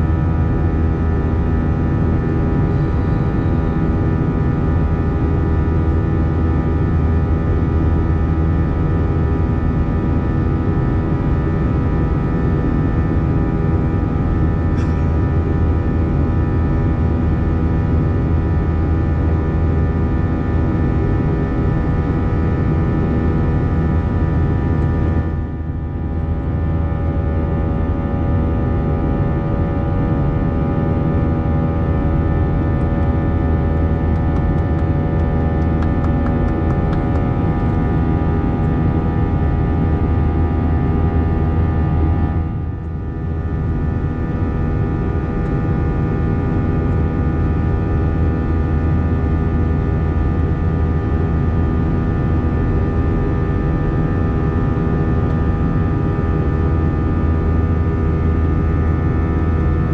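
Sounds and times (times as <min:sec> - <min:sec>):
airplane cabin jet engine drone: 0:00.0 - 0:59.9.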